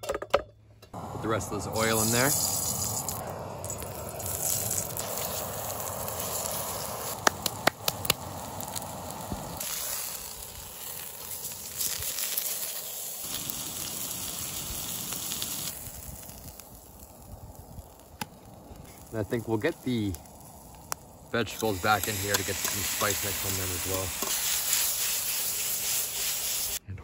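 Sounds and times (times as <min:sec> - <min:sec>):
steak sizzling in a pan: 0:01.0 - 0:26.8.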